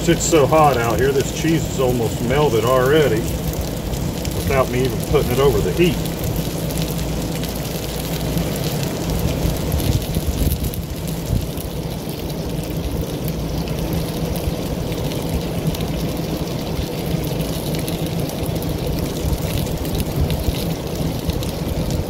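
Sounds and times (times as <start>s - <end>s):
constant low rumble: 0.0s - 22.0s
food sizzling on a griddle: 0.0s - 22.0s.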